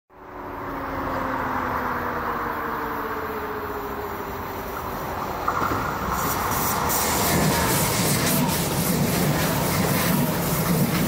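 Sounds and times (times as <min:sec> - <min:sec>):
train rushing rumble: 0:00.2 - 0:11.0.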